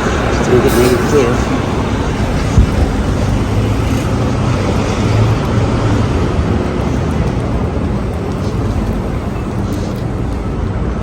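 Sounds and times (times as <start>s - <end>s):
vehicle engine rumbling: 0.0s - 11.0s
wind noise on microphone: 0.0s - 11.0s.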